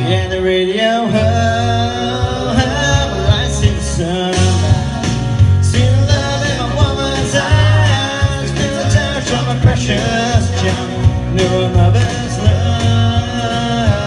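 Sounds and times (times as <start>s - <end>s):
karaoke backing track: 0.0s - 14.0s
man singing into a microphone: 0.0s - 14.0s.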